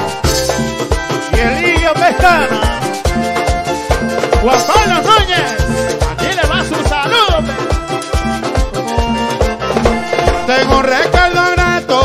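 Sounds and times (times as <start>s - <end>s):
button accordion melody: 0.0s - 12.0s
steady low beat: 0.1s - 11.4s.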